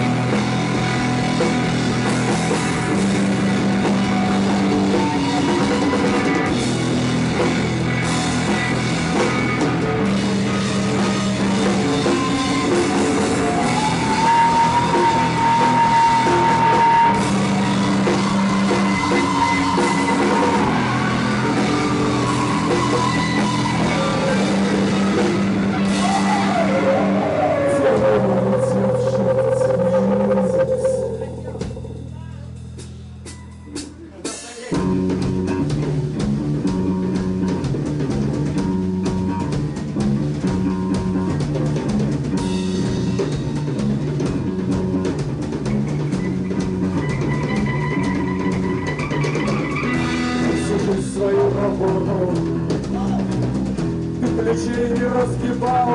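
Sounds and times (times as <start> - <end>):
sliding lead melody: 0.0 - 33.9, 34.9 - 55.9
rock band playing: 0.0 - 55.9.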